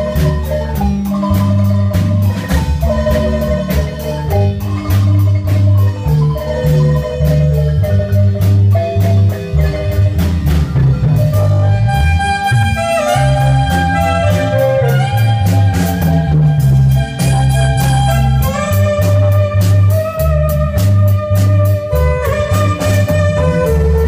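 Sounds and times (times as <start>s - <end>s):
bass line: 0.0s - 24.0s
marimba dance music: 0.0s - 24.0s
steady beat: 0.0s - 24.0s.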